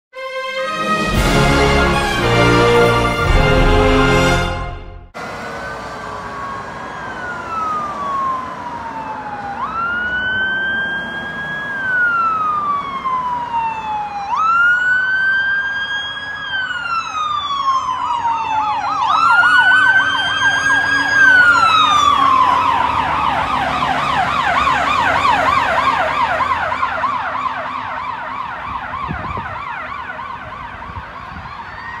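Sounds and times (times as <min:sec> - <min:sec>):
fire truck sirens wailing and yelping: 0:00.2 - 0:32.0.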